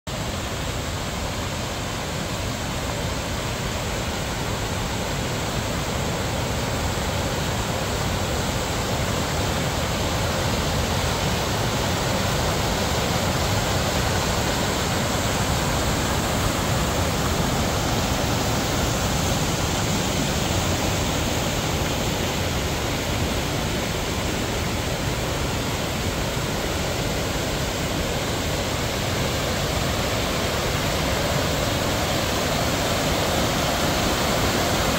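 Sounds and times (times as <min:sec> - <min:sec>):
water rushing: 0:00.1 - 0:34.9.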